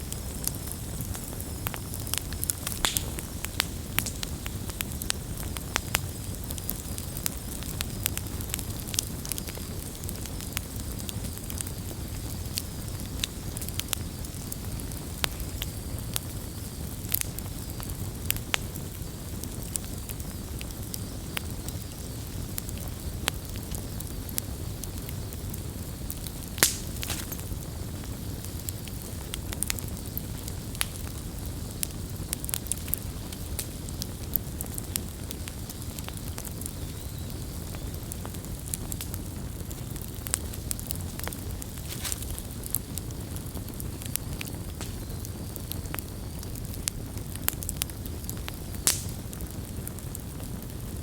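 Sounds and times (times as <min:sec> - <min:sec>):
campfire crackling and popping: 0:00.0 - 0:51.0.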